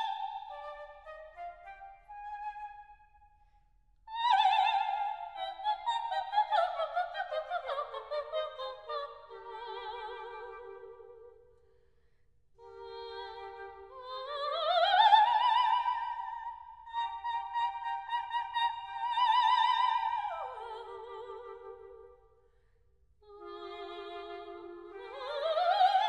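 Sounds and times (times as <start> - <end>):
soprano singing opera: 0.0 - 1.2, 4.1 - 11.4, 12.6 - 22.3, 23.2 - 26.0.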